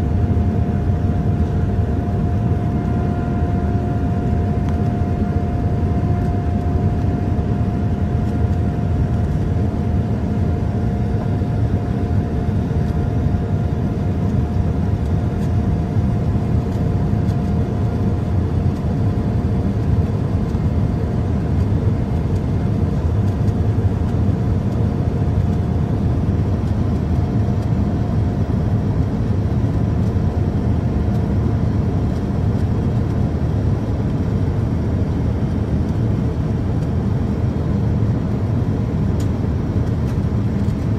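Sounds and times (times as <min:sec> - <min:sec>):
faint steady whine: 0:00.0 - 0:40.9.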